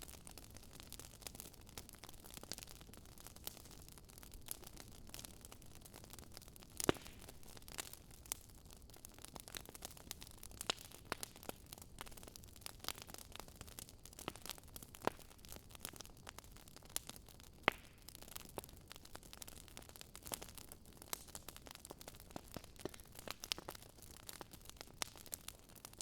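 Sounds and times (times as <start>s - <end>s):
burning log crackling and popping: 0.0s - 26.0s.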